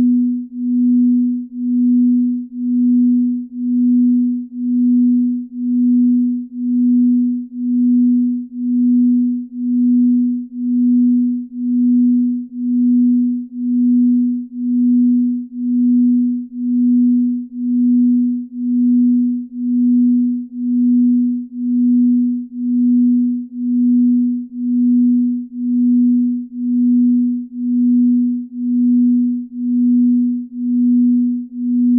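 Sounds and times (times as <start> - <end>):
pulsing low pure tone: 0.0 - 31.9.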